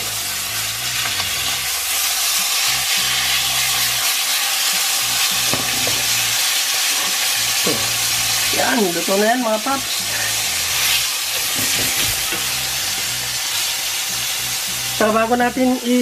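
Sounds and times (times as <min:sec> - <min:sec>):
steak sizzling in frying pan: 0:00.0 - 0:16.0.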